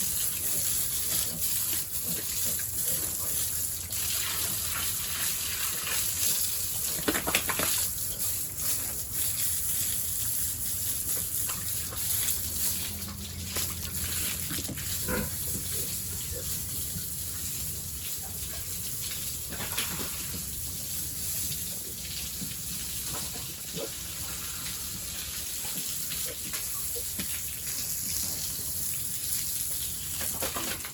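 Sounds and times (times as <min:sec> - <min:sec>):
water gushing: 0:00.0 - 0:30.9.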